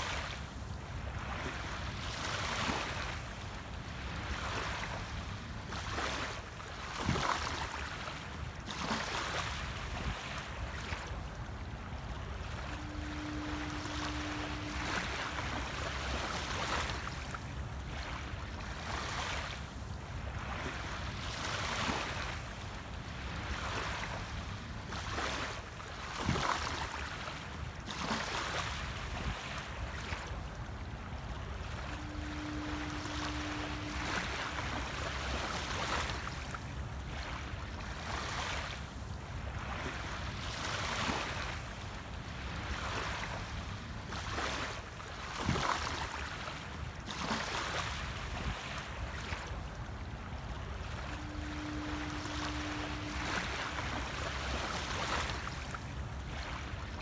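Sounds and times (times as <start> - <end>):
small waves lapping on a beach: 0.0 - 57.0.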